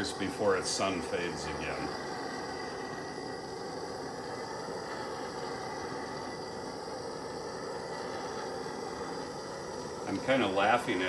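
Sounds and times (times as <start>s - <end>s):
gas torch burning: 0.0s - 11.0s.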